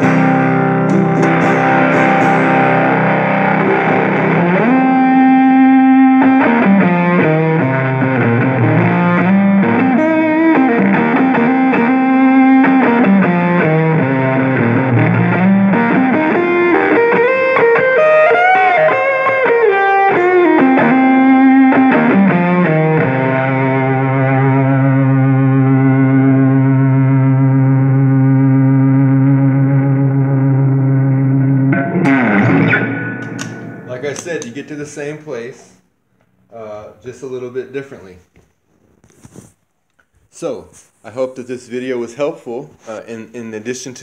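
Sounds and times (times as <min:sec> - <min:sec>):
distorted electric guitar: 0:00.0 - 0:36.4.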